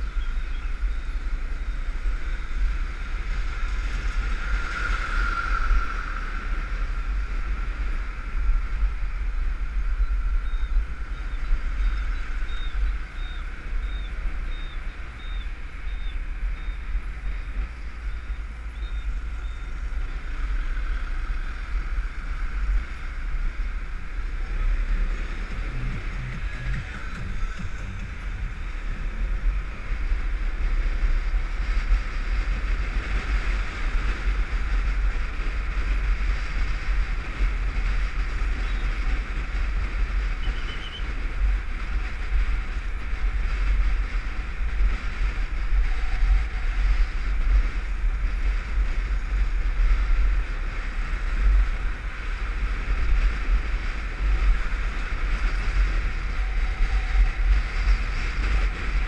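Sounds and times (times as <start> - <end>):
motorcycle rumble: 0.0 - 59.0
road noise: 0.0 - 59.0
wind buffeting microphone: 0.0 - 59.0.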